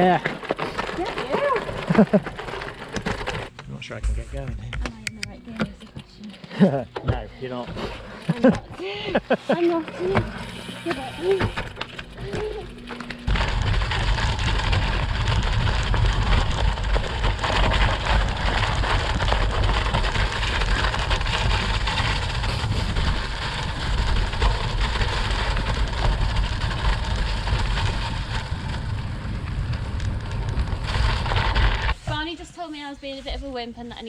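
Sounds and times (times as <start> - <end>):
tyres rolling on snow: 0.0 - 3.5, 6.6 - 34.0.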